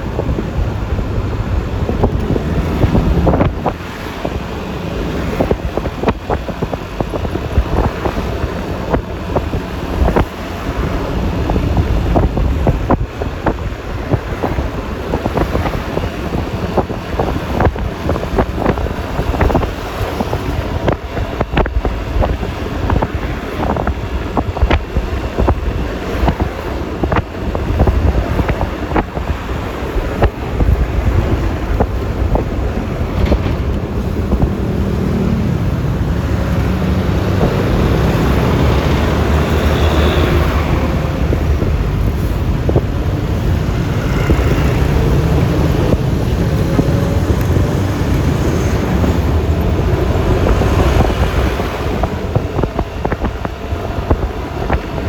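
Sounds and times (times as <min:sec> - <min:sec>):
scooter road and engine noise: 0:00.0 - 0:55.0
wind buffeting microphone: 0:00.0 - 0:55.0.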